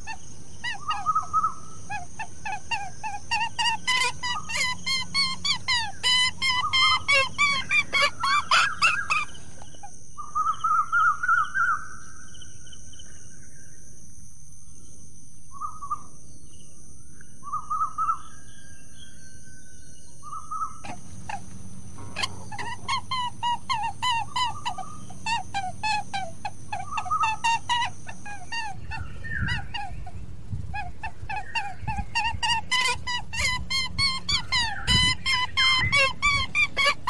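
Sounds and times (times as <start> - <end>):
birds chirping: 0.0 - 13.9, 14.6 - 37.0.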